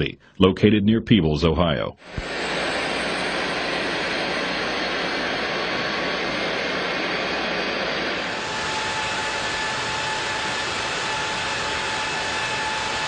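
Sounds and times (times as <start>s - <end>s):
high whining tones: 2.0s - 13.0s
jet engine rushing noise: 2.0s - 13.0s.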